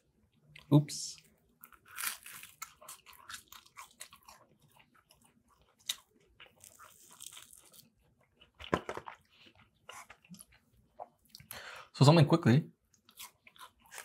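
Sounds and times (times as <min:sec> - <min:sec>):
crunching and chewing fried batter: 0:00.1 - 0:11.6, 0:12.8 - 0:14.0.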